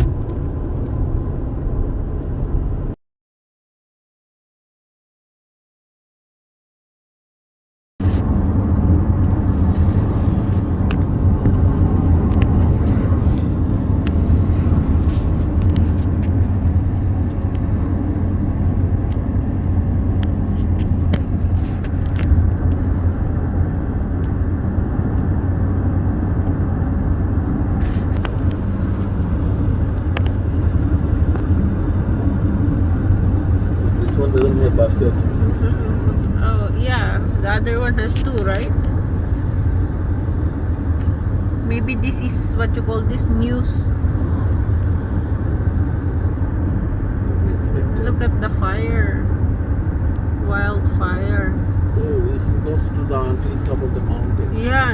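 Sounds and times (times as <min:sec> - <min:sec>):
car engine and road noise inside: 0:00.0 - 0:03.0, 0:08.0 - 0:54.9.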